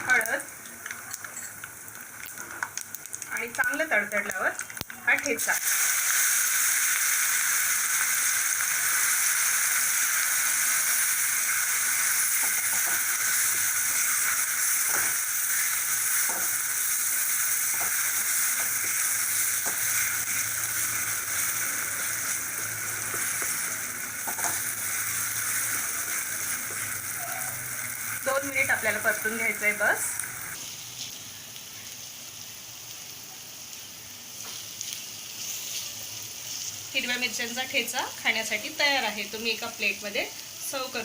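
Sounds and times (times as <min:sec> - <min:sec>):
chillies sizzling in hot oil: 0:00.0 - 0:41.0.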